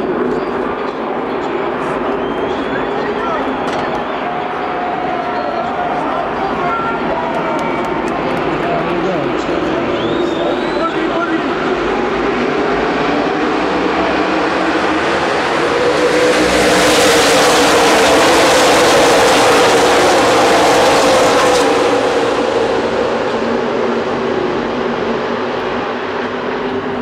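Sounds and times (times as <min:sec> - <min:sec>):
race cars passing at speed: 0:00.0 - 0:27.0.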